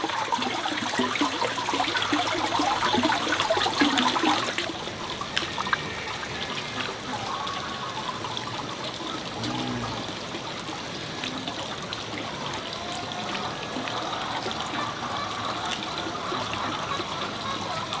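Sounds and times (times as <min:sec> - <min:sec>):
small splashes and clicks: 0:00.0 - 0:07.7, 0:08.3 - 0:18.0
water trickling: 0:00.0 - 0:18.0.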